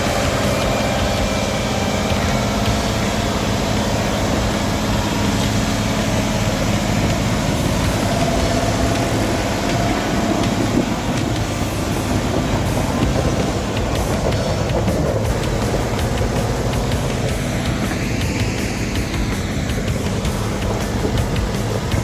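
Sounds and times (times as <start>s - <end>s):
heavy truck engine running: 0.0s - 22.0s.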